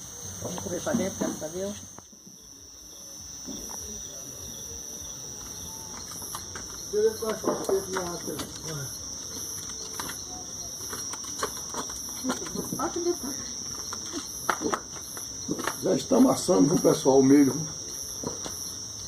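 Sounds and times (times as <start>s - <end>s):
insects trilling: 0.0s - 19.0s
pulsing insect call: 0.0s - 19.0s.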